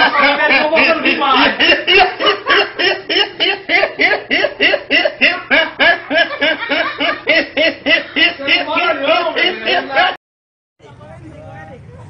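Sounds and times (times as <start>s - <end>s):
young man laughing hard: 0.0s - 10.2s.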